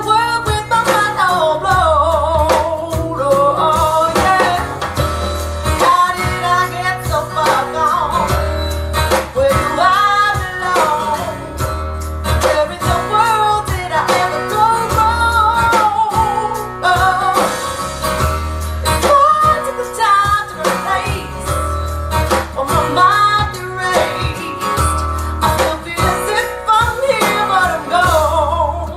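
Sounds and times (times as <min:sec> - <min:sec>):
person singing: 0:00.0 - 0:18.1, 0:18.9 - 0:28.9
plucked guitar: 0:00.0 - 0:28.9.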